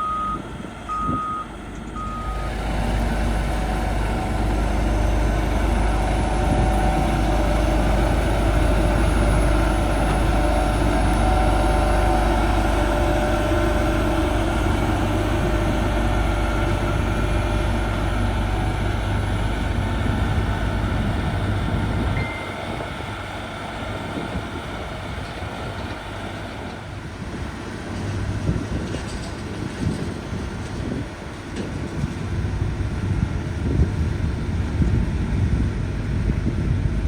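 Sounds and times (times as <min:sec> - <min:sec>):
diesel machine engine rumble: 0:00.0 - 0:37.0.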